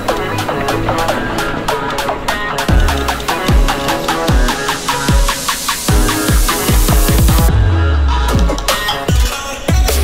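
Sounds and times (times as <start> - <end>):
synth lines: 0.0 - 9.2
drum and bass music: 0.0 - 10.0.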